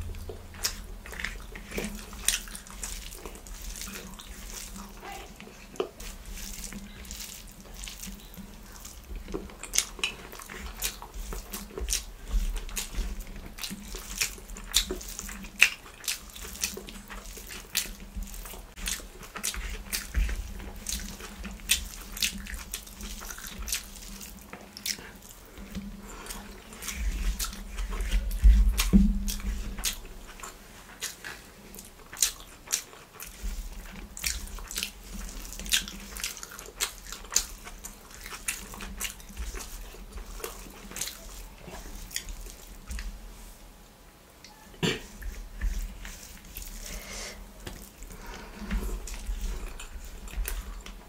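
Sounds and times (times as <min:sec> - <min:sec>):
wet chewing and lip smacks: 0:00.0 - 0:43.3, 0:44.4 - 0:51.0
fingers mixing food: 0:00.0 - 0:43.7, 0:44.4 - 0:51.0.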